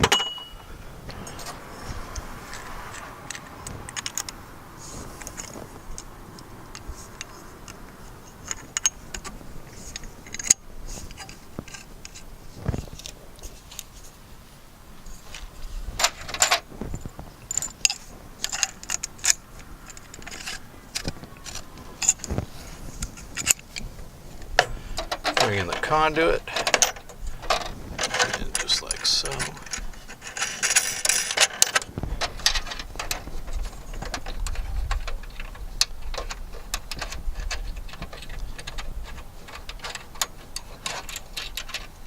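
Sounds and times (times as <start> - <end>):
metal hardware clinking: 0.0 - 1.6, 6.7 - 12.3, 15.2 - 42.0.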